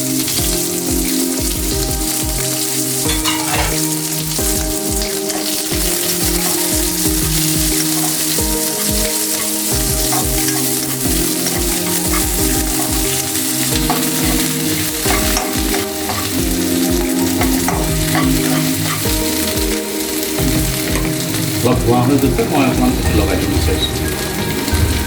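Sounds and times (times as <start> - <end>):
onion sizzling in hot oil: 0.0 - 25.0
spoon scraping and knocking pan: 0.0 - 25.0.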